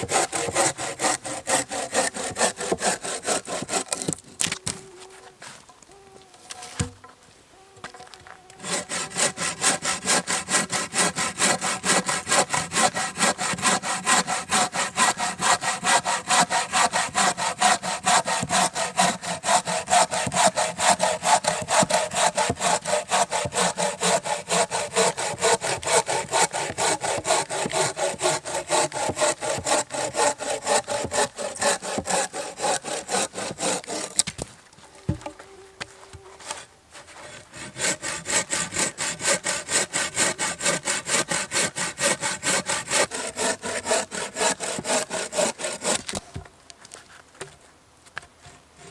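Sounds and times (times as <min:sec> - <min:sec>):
hand saw cutting wood: 0:00.0 - 0:04.8, 0:08.6 - 0:34.4, 0:36.4 - 0:46.4, 0:48.5 - 0:48.9.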